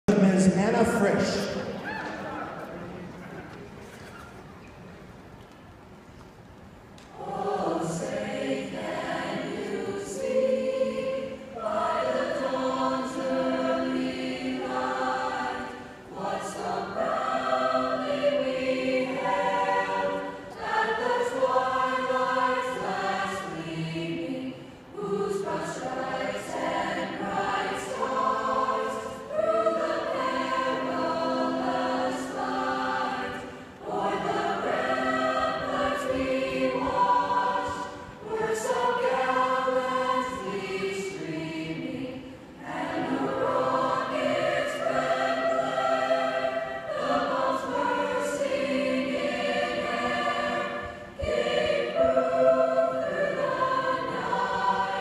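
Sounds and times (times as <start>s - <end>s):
girls' choir singing: 7.0s - 55.0s.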